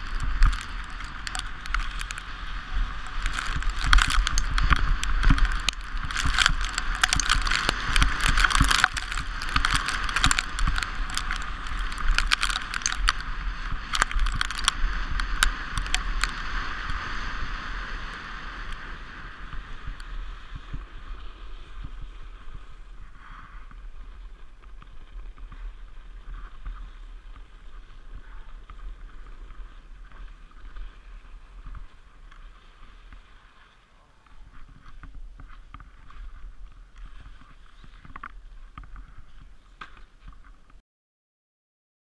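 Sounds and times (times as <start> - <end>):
sled runners scraping over snow: 0.0 - 40.8
wind rumbling on microphone: 0.0 - 40.8.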